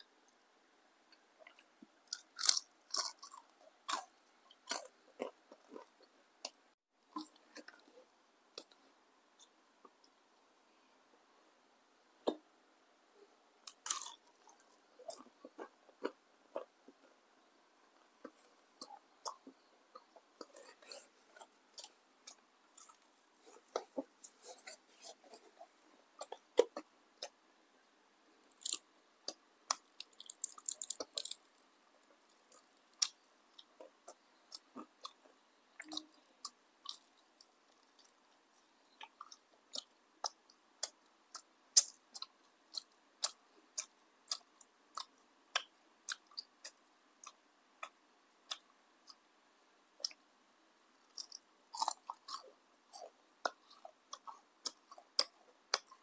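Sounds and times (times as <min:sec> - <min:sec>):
crunchy food being chewed: 0:01.1 - 0:10.2, 0:13.6 - 0:17.2, 0:17.9 - 0:27.4, 0:28.4 - 0:49.3, 0:51.0 - 0:56.0.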